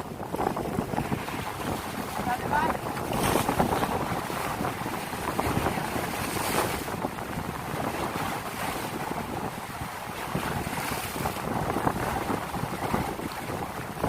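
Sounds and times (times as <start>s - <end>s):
waves splashing: 0.0s - 14.0s
wind buffeting microphone: 0.0s - 14.0s.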